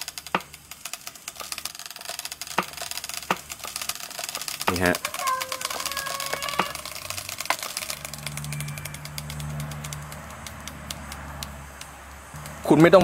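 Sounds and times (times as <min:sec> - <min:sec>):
plastic bottle crackling ticks: 0:00.0 - 0:13.0.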